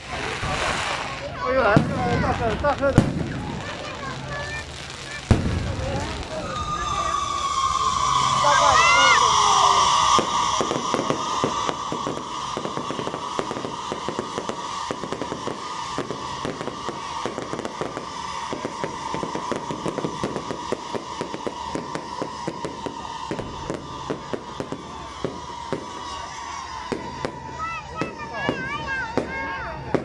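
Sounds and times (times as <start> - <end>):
fireworks crackling and banging: 0.0 - 30.0
steady high tone: 3.8 - 29.9.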